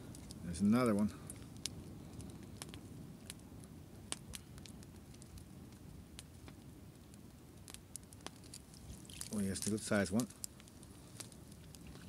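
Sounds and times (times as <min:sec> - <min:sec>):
low steady rumble: 0:00.0 - 0:12.0
wood fire crackling and popping: 0:00.0 - 0:12.0.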